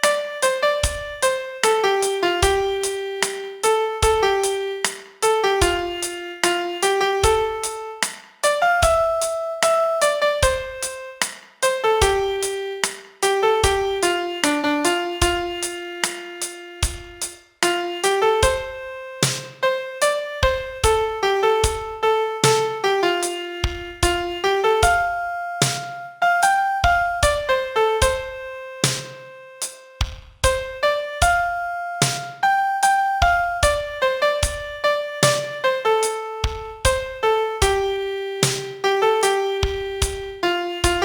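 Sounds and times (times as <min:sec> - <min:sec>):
piano melody: 0:00.0 - 0:41.0.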